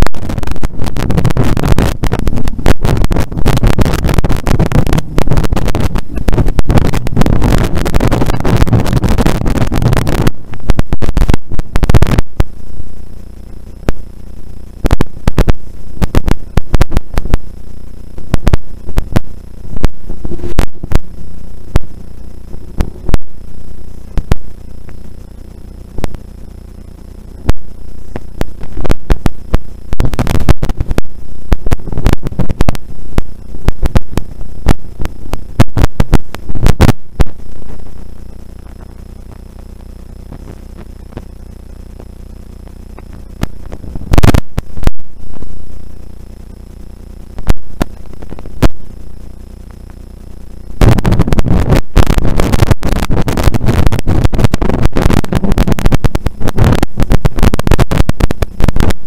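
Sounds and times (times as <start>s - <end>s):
microphone crackles and clicks: 0.0s - 59.0s.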